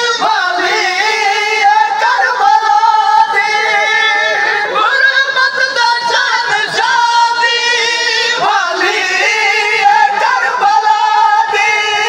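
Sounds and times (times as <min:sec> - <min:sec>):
man singing a lament: 0:00.0 - 0:12.0.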